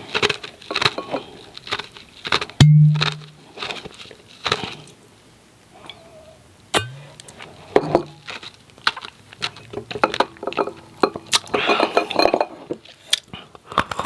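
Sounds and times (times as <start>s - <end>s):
ice being chewed: 0.0s - 5.1s, 7.1s - 14.0s.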